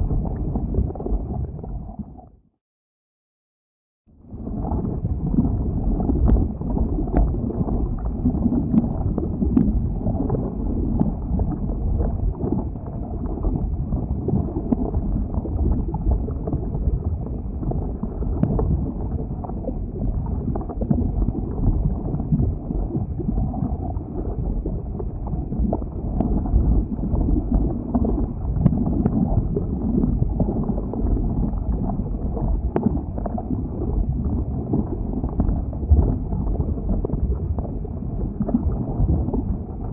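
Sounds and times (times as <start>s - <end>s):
lava flowing with low rumble: 0.0s - 2.4s, 4.1s - 39.9s.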